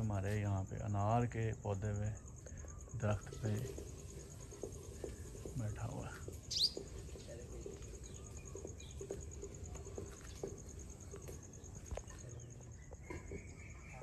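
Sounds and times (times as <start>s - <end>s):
insects trilling: 0.0s - 14.0s
bird chirps: 1.9s - 14.0s.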